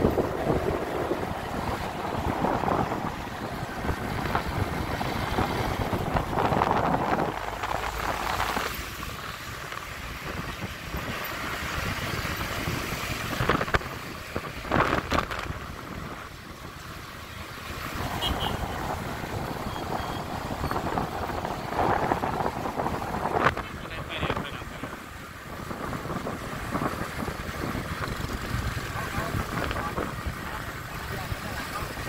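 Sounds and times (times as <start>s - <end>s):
wind buffeting microphone: 0.0s - 16.8s, 17.9s - 32.0s.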